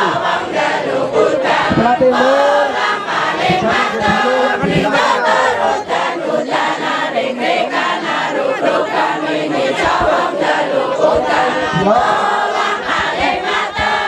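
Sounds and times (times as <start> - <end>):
crowd chanting and singing: 0.0 - 14.0.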